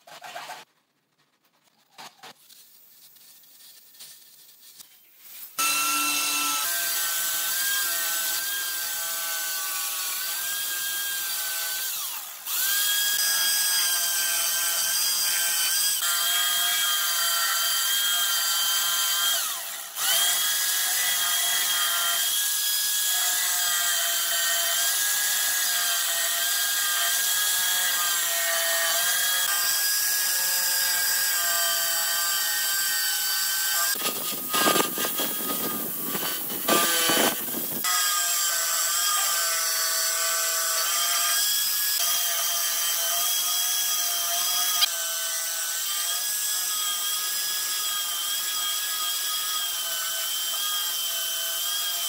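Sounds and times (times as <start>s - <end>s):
jigsaw cutting wood: 5.6s - 52.0s.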